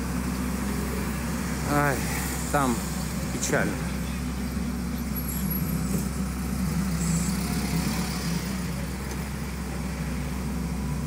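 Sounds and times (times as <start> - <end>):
bus passing on wet road: 0.0 - 11.0
low hum of idling vehicles: 0.0 - 11.0.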